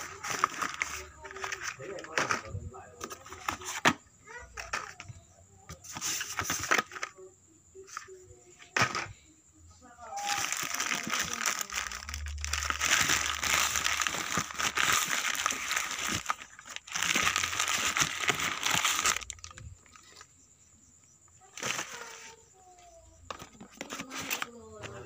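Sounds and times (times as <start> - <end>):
plastic and cardboard rustling: 0.0 - 7.2, 7.8 - 9.2, 10.1 - 20.3, 21.4 - 25.0.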